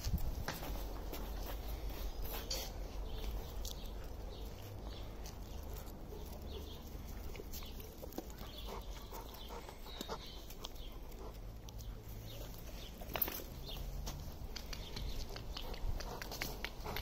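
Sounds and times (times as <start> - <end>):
claws clicking on brick paving: 0.0 - 17.0.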